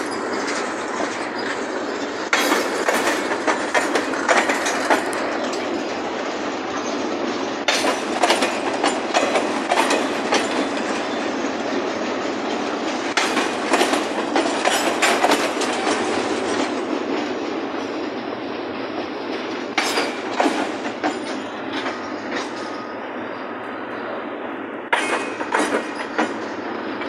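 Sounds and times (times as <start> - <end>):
train cars clicking and clanking: 0.0 - 27.0
train wheels rumbling on rails: 0.0 - 27.0.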